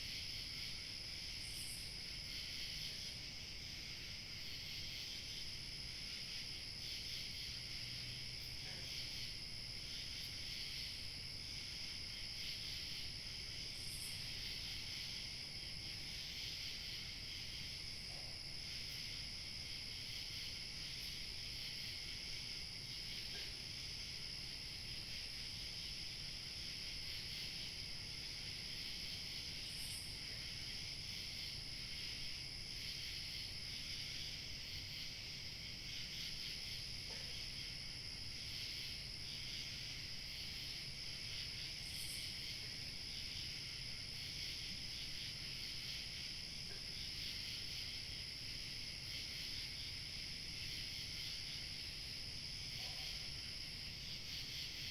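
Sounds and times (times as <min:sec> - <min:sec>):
crickets chirping: 0:00.0 - 0:54.9
high insect trill: 0:00.1 - 0:54.9.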